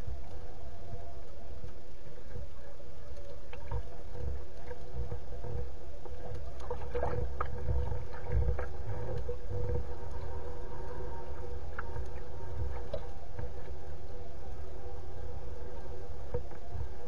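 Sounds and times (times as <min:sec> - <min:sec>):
faint ticks: 0:00.0 - 0:14.6
faint steady hum: 0:00.0 - 0:17.0
wind and waves rumble: 0:00.0 - 0:17.0.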